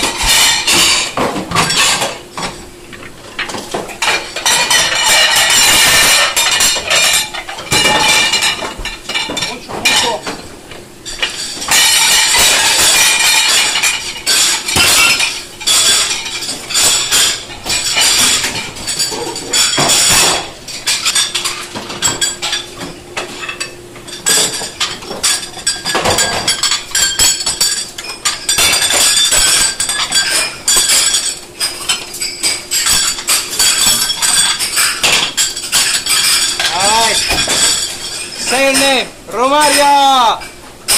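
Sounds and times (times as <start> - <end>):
dishes and cutlery clattering: 0.0 - 40.9.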